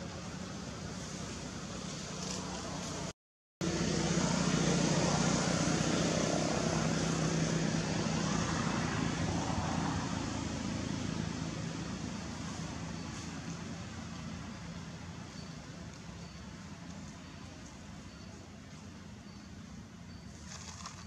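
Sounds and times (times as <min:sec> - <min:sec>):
motor vehicle engine running: 0:00.0 - 0:21.0.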